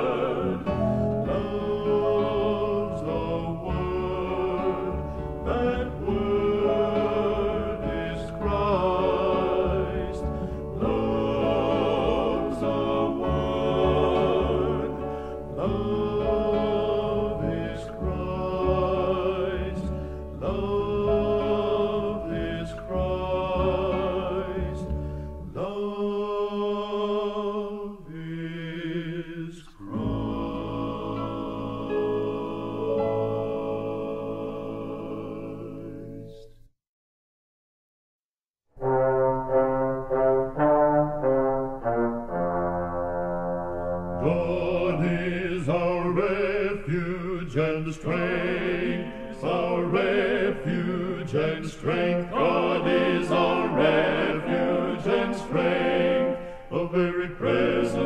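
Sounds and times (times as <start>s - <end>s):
gospel music: 0.0s - 36.6s, 38.8s - 58.0s.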